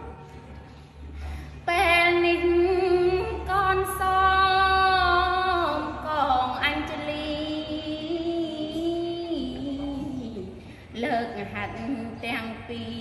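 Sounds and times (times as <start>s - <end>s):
woman chanting unaccompanied: 1.7s - 13.0s.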